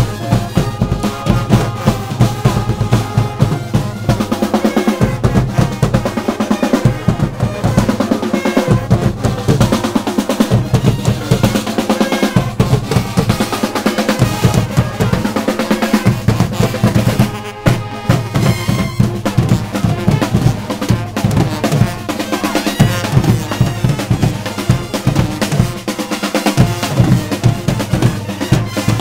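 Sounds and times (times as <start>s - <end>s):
brass and reeds playing: 0.0s - 29.0s
snare and bass drums beating: 0.0s - 29.0s.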